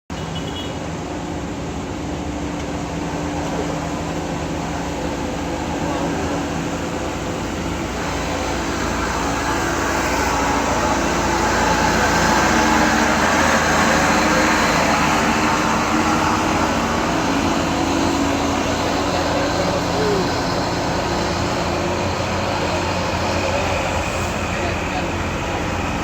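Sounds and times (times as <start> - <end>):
truck diesel engine under load: 0.1 - 26.0.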